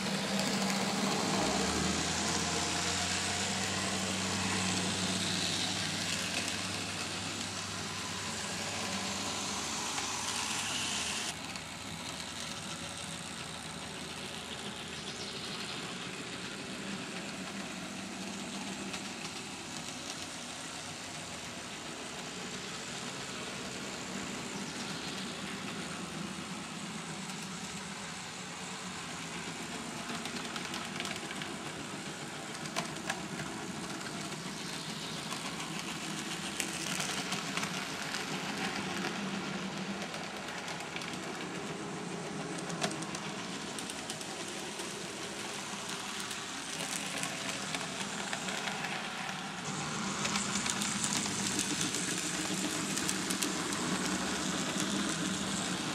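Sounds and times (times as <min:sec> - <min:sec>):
model train motors whirring: 0:00.0 - 0:55.9
wheels rolling on track: 0:00.0 - 0:55.9.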